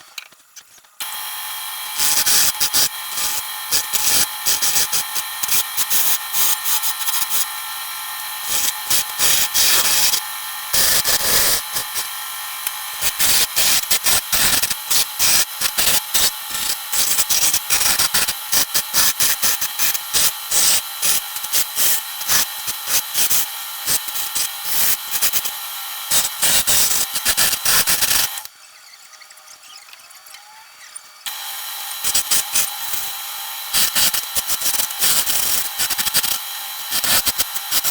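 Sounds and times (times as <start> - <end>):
wood lathe whining: 1.0 - 37.9.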